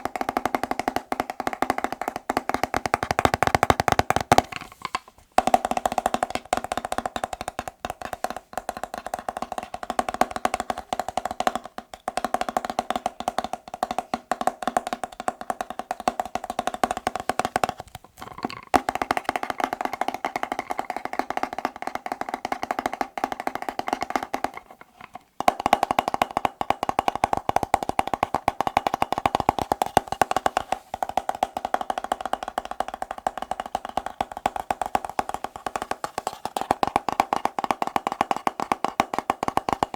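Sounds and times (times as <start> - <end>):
fast fingertip tapping on hollow object: 0.0 - 39.9.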